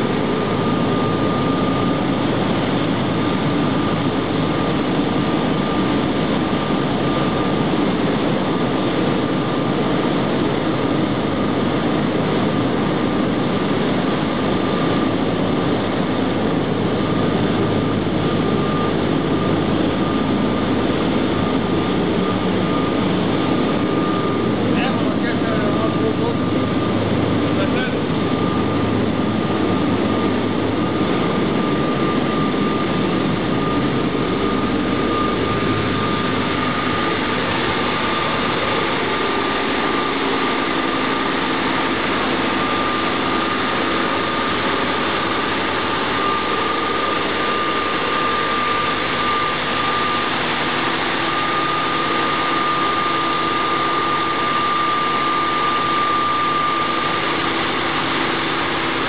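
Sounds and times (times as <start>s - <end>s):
diesel engine drone: 0.0s - 59.0s
high engine whine: 0.0s - 59.0s.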